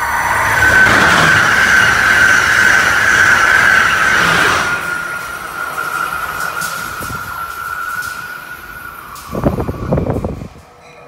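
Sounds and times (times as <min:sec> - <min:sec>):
high-speed train rushing past: 0:00.0 - 0:11.0
train high-pitched whine: 0:00.0 - 0:11.0.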